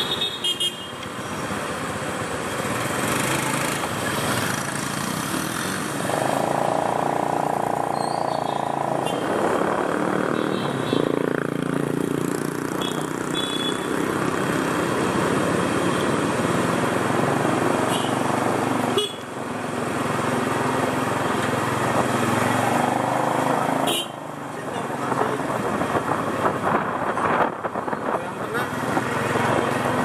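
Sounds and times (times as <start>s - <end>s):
cars in traffic: 0.0s - 30.0s.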